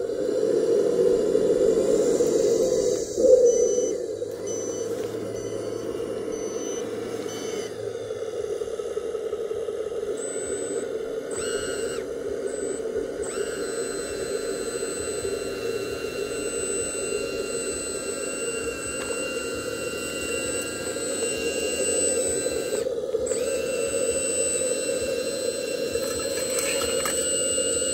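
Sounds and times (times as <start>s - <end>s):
electric motor humming: 0.0s - 27.9s
high-pitched motor whine: 0.0s - 27.9s.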